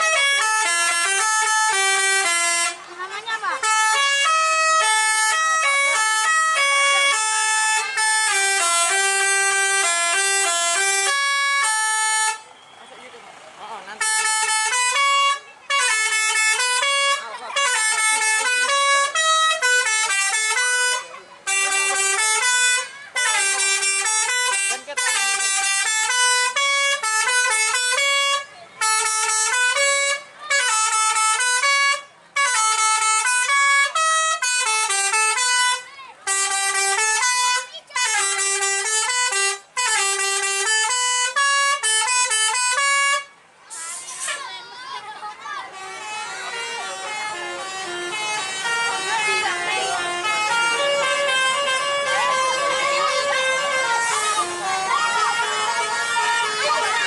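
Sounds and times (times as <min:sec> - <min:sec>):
multi-tone bus horn melody: 0:00.0 - 0:57.0.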